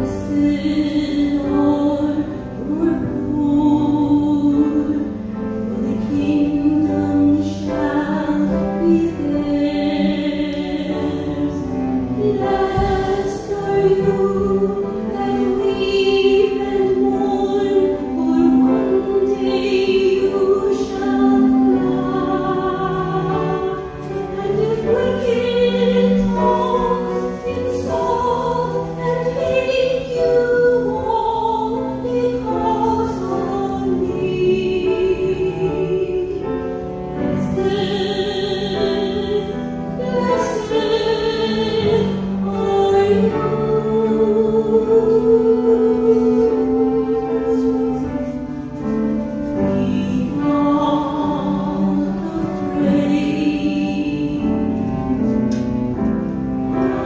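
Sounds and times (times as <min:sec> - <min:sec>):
person singing a hymn: 0:00.0 - 0:57.0.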